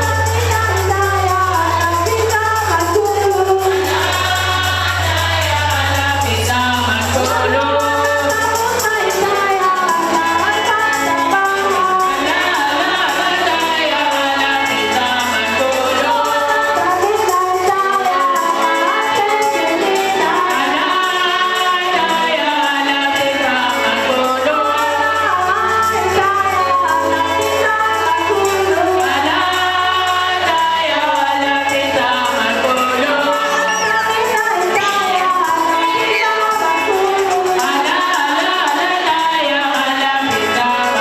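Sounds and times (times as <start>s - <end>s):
accompanying music: 0.0s - 41.0s
women singing church song: 0.0s - 41.0s.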